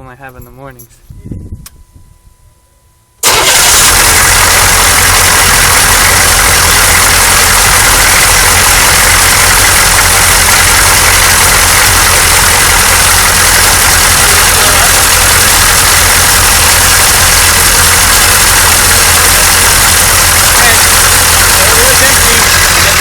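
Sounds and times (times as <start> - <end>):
diesel engine idling: 3.2 - 23.0.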